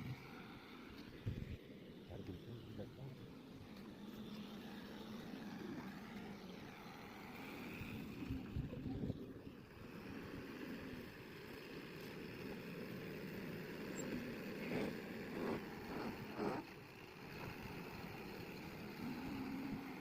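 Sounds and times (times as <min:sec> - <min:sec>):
backhoe diesel engine running: 0:00.0 - 0:20.0.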